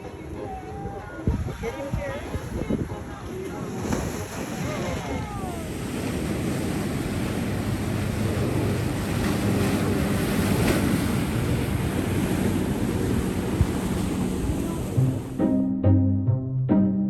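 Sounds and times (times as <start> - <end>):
sea waves washing in: 0.2 - 15.4
wind rumbling on microphone: 0.5 - 15.4.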